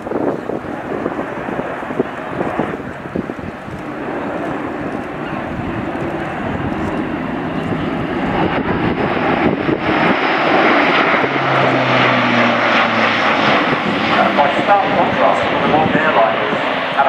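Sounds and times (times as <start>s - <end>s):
low propeller hum: 0.0s - 17.0s
turboprop aircraft droning overhead: 0.0s - 17.0s.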